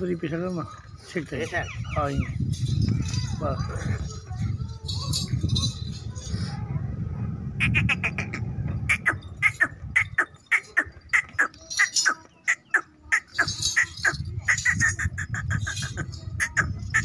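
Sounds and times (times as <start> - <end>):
small birds chirping: 0.0 - 6.6, 7.6 - 17.0.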